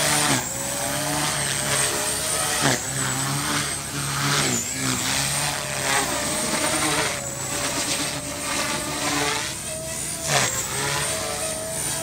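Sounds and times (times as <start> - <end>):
rc helicopter motor whine: 0.0 - 12.0
rotor buzz: 0.0 - 12.0.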